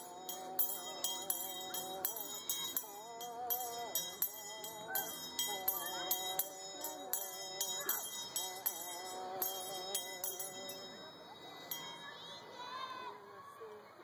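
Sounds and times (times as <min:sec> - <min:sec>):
handbell ringing steady beat: 0:00.0 - 0:12.9.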